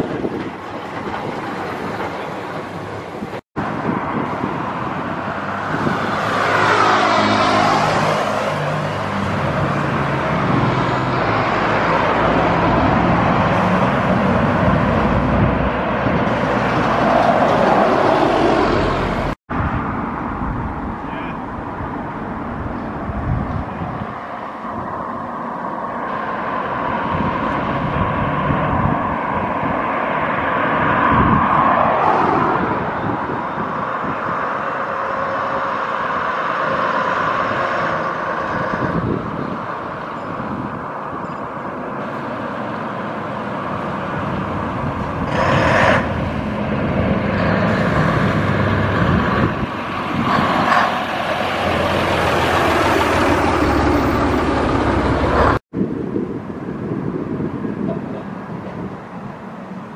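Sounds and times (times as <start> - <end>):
diesel bus engine: 0.0 - 31.4, 32.6 - 59.9
road traffic passing: 0.0 - 59.9.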